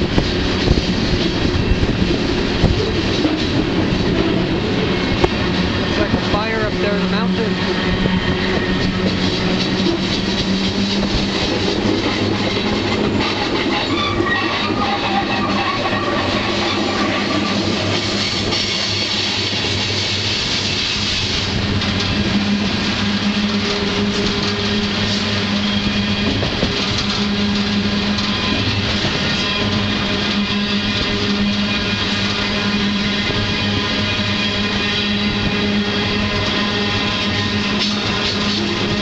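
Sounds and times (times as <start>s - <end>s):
freight train rumble and rattle: 0.0s - 39.0s.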